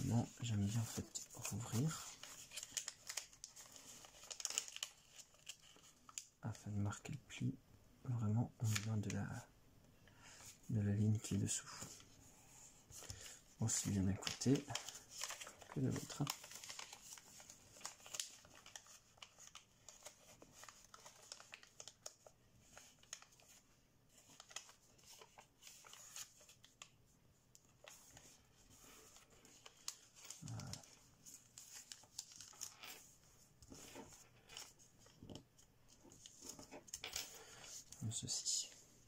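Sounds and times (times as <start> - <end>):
paper rustling and crinkling: 0.0 - 6.3, 12.9 - 27.0, 27.6 - 38.8.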